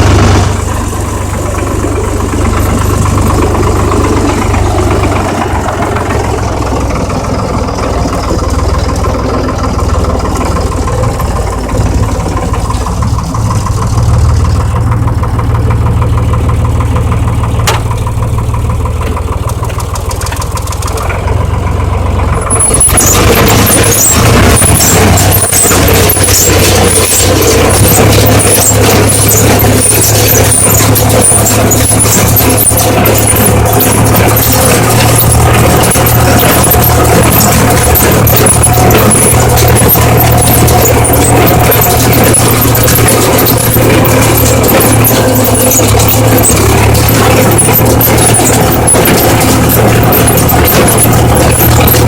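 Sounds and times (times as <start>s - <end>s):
loud rough noise: 0.0s - 52.0s
tractor engine idling: 0.0s - 52.0s.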